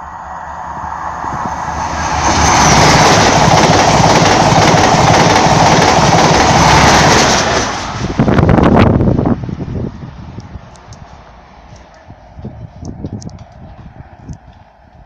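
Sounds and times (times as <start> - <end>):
rushing rail and wheel noise: 0.0 - 15.0
train passing at speed: 0.0 - 15.0.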